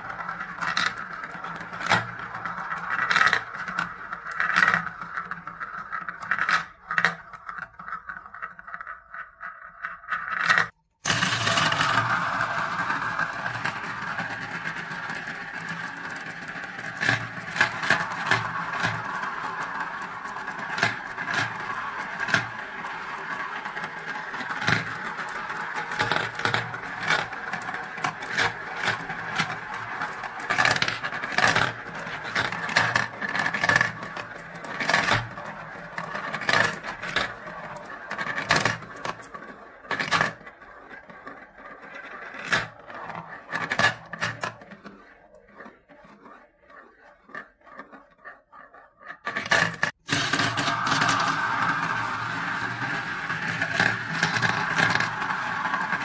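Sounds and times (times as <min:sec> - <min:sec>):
marbles rolling in plastic bowls: 0:00.0 - 0:56.0
marbles clicking against plastic: 0:00.1 - 0:56.0.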